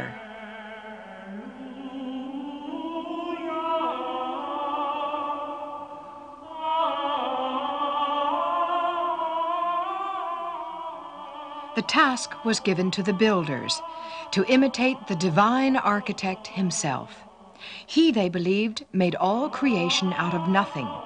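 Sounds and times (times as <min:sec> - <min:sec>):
voices singing long notes: 0:00.0 - 0:21.0.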